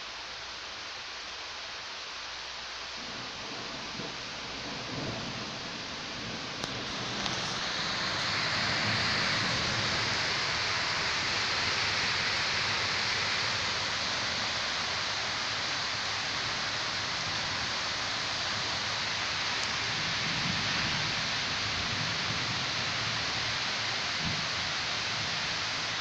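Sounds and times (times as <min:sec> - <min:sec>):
rain falling steadily: 0:00.0 - 0:26.0.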